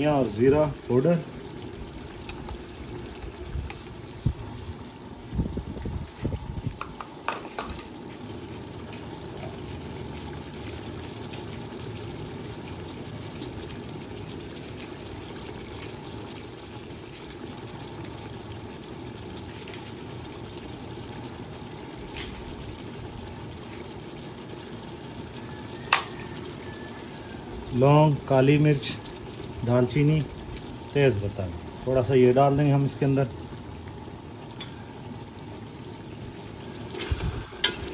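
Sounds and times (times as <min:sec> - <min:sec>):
broth bubbling in a pot: 0:00.0 - 0:37.9.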